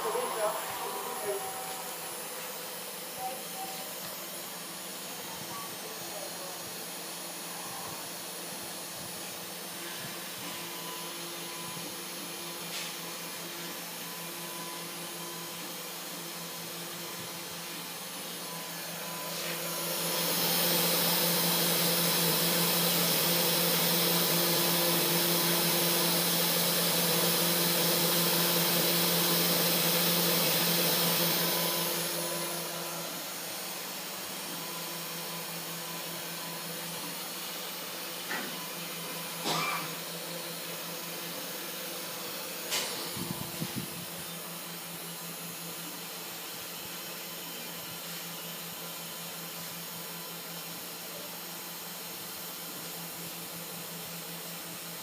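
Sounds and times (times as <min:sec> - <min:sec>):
cnc router spindle whine: 0:00.0 - 0:55.0.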